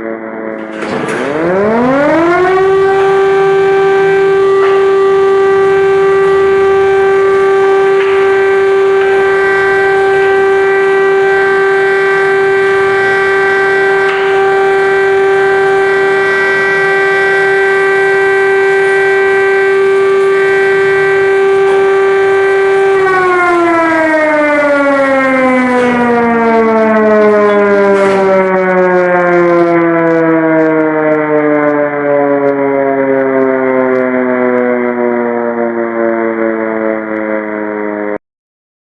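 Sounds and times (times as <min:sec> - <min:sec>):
air-raid siren: 0:00.0 - 0:38.2.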